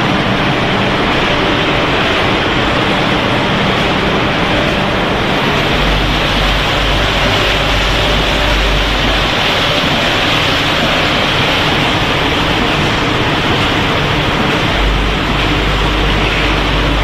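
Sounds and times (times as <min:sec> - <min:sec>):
low rumble: 0:00.0 - 0:17.0
packaging machinery noise: 0:00.0 - 0:17.0.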